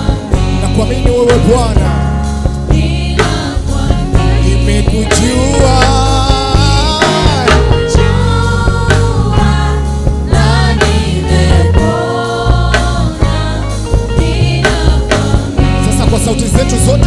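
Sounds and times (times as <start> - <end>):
band with heavy bass: 0.0 - 17.0
choir singing gospel: 0.0 - 17.0.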